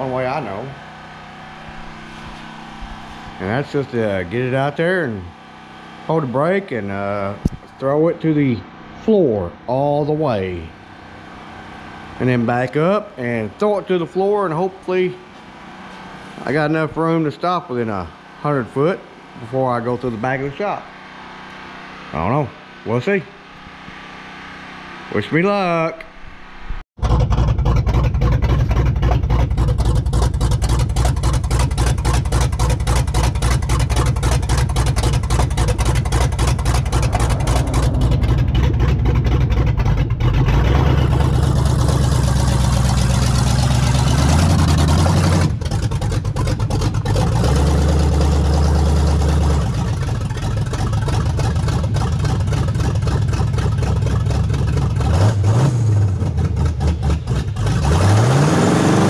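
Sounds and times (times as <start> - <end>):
engine choppy idle: 0.0 - 24.1, 27.0 - 58.1.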